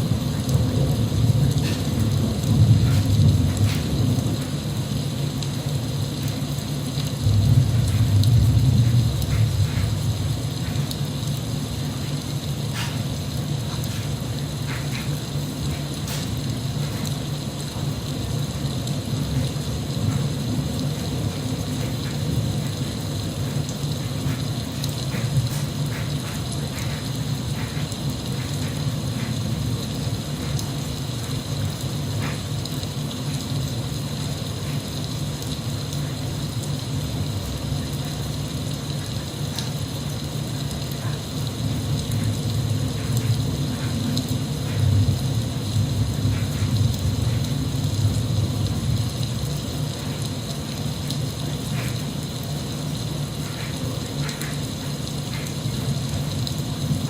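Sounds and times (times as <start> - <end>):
drips and ticks: 0.0 - 57.0
steady rain: 0.0 - 57.0.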